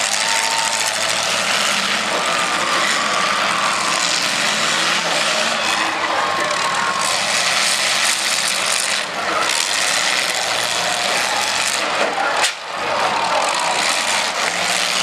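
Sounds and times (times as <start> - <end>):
car engines revving: 0.0 - 15.0
cars ramming each other: 0.0 - 15.0.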